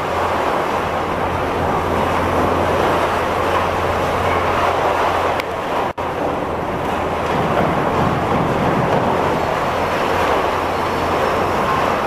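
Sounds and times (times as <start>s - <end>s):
excavator engine and hydraulics: 0.0s - 12.0s
low hum: 0.0s - 12.0s.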